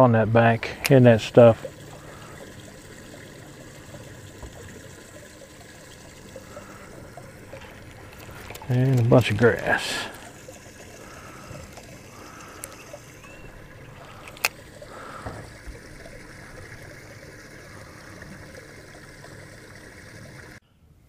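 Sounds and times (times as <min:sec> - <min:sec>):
waves lapping against hull: 0:00.0 - 0:20.6.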